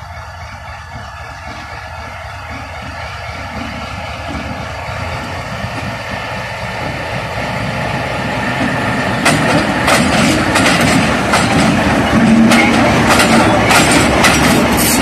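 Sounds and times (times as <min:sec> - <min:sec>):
diesel locomotive engine: 0:00.0 - 0:15.0
train wheels clacking on rail joints: 0:00.0 - 0:15.0.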